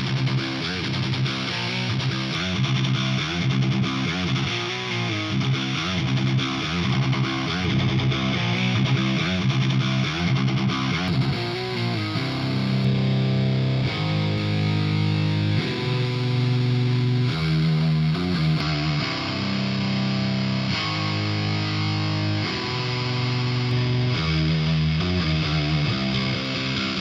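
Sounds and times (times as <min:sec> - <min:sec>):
distorted electric guitars: 0:00.0 - 0:27.0.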